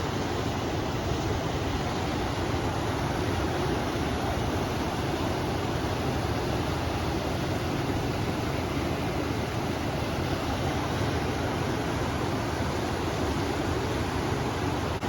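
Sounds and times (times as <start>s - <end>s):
river water rushing: 0.0s - 15.0s
wind: 0.0s - 15.0s.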